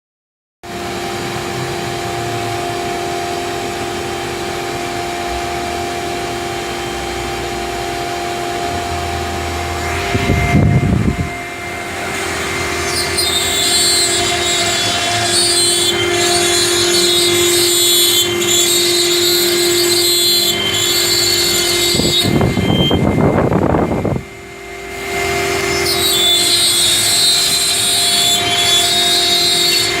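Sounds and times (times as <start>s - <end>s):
router bit cutting wood: 0.7s - 30.0s
router spindle whine: 0.7s - 30.0s.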